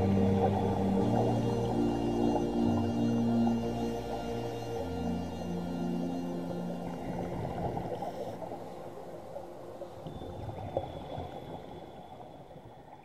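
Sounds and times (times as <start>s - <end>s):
underwater bubbles rushing: 0.0s - 13.0s.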